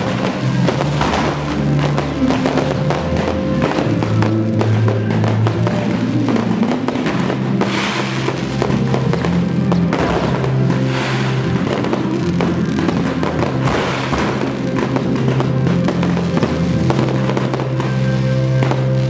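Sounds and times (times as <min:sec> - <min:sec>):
firework bangs: 0:00.0 - 0:19.0
hissing crackle of fireworks: 0:00.0 - 0:19.0
loud music with bass: 0:00.0 - 0:19.0.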